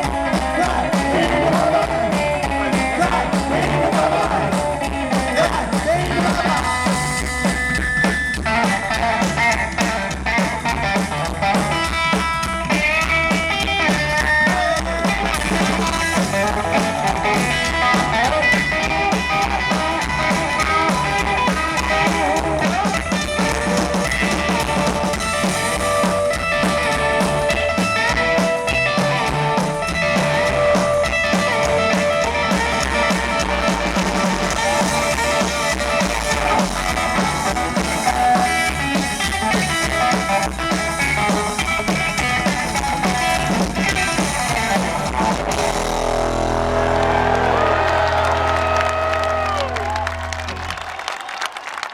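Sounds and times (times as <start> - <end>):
drum kit steady beat: 0.0 - 50.0
electric guitar lead: 0.0 - 51.0
upright bass: 0.0 - 51.0.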